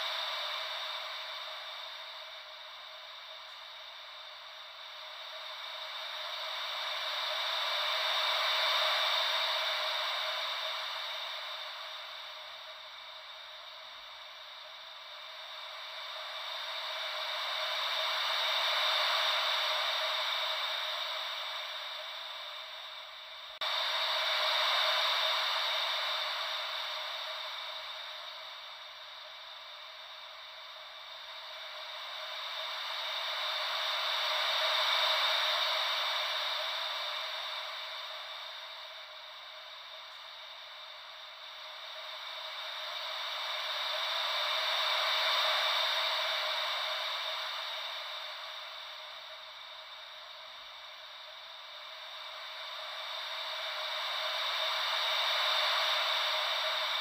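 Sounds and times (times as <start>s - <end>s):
white noise like ocean waves: 0.0s - 57.0s.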